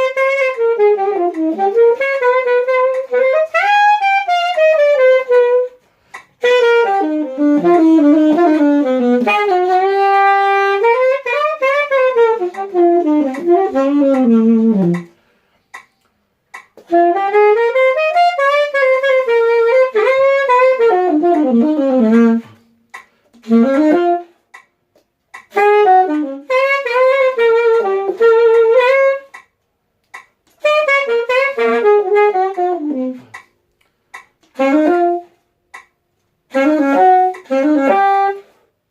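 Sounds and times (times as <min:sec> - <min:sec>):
solo saxophone melody: 0:00.0 - 0:15.6, 0:16.8 - 0:29.6, 0:30.5 - 0:38.9.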